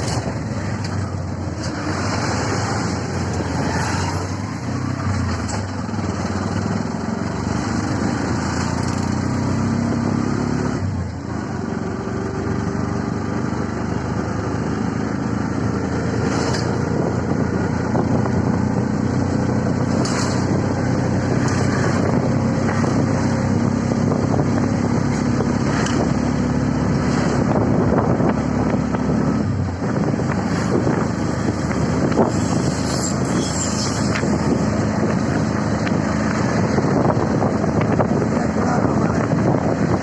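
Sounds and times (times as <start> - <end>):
wind noise: 0.0 - 11.5, 15.1 - 40.0
auto-rickshaw engine running: 0.0 - 40.0
road noise: 0.0 - 40.0.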